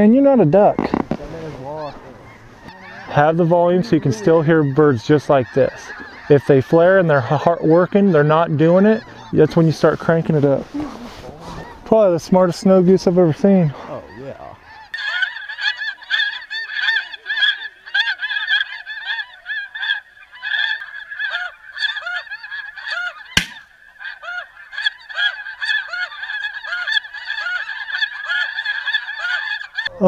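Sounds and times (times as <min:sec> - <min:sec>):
geese honking chorus: 0:00.6 - 0:30.0.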